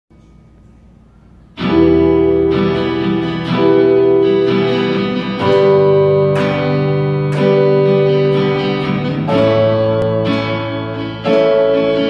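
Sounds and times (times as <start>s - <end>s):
faint hum: 0.1s - 12.0s
live band guitar chords ringing: 0.1s - 12.0s.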